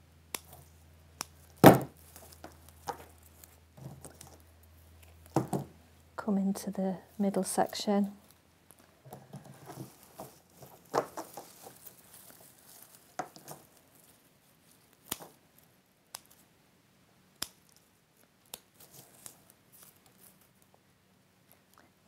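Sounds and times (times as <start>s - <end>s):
stems rustling: 0.3s - 5.9s, 6.6s - 16.5s, 17.6s - 20.7s.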